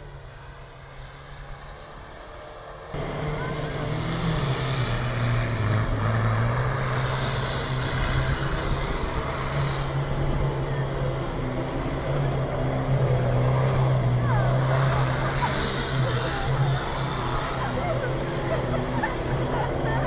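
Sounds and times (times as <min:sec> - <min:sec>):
off-road vehicle engine running hard: 0:00.0 - 0:20.0.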